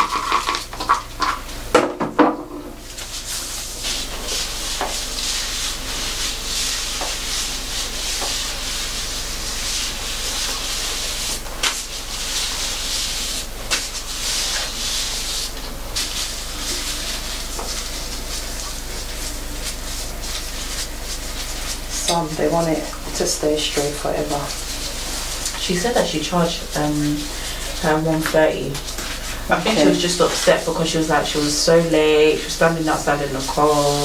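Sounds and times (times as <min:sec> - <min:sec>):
hands rubbing wet hair: 0:02.8 - 0:34.0.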